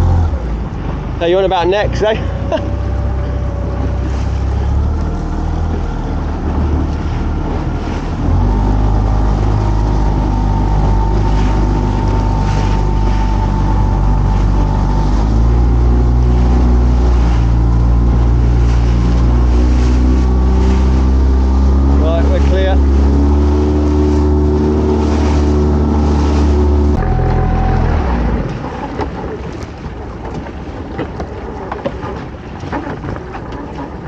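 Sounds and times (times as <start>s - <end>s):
boat engine running: 0.0s - 34.0s
water splashing along hull: 0.0s - 34.0s.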